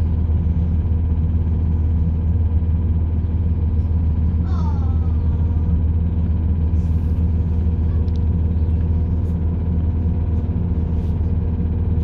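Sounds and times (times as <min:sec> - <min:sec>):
train diesel engine drone: 0:00.0 - 0:12.0
wheel and rail running noise: 0:00.0 - 0:12.0.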